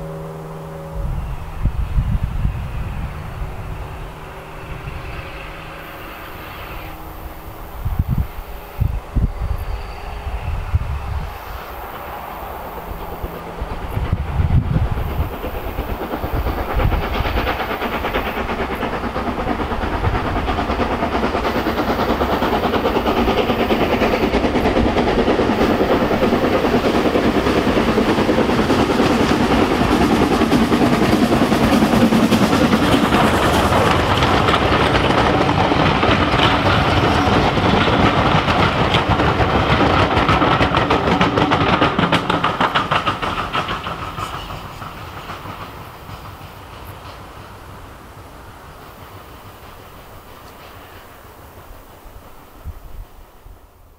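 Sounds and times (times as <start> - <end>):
steam locomotive passing: 0.0 - 53.9
clickety-clack of wheels on rails: 2.0 - 53.9.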